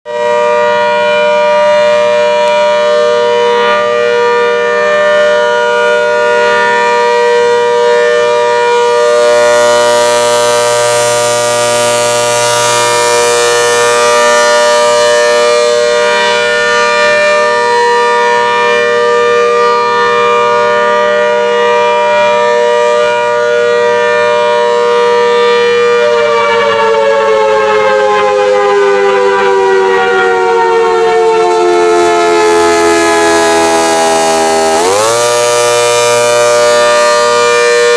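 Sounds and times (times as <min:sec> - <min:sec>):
warning siren: 0:00.0 - 0:37.9.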